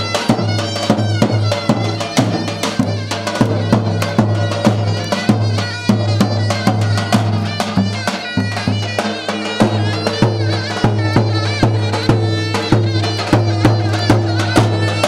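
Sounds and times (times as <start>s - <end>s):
reedy wind instrument melody: 0.0s - 15.0s
steady drum beat: 0.0s - 15.0s.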